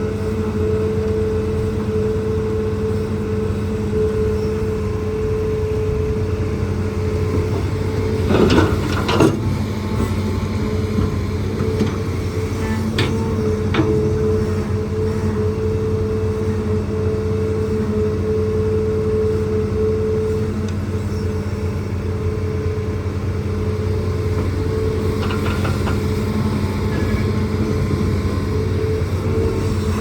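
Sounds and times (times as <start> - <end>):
excavator engine and hydraulics: 0.0 - 30.0.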